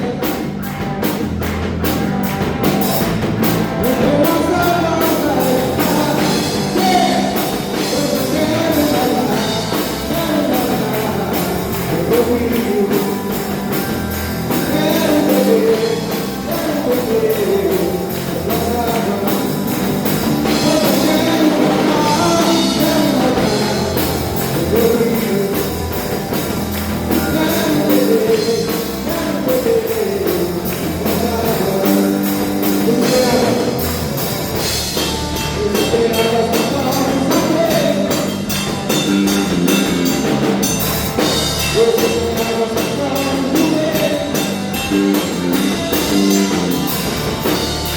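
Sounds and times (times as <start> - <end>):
worship song with band: 0.0 - 47.9.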